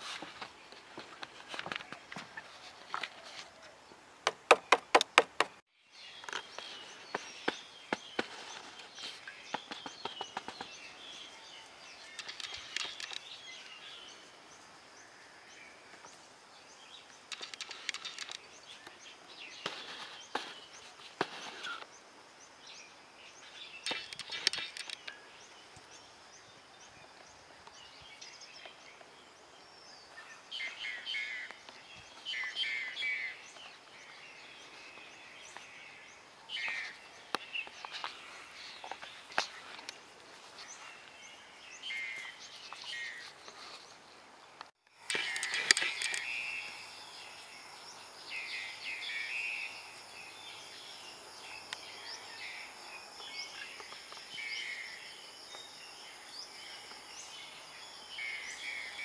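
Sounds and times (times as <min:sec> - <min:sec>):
faint outdoor background noise: 0:00.0 - 0:59.0
wild birds singing: 0:00.0 - 0:59.0.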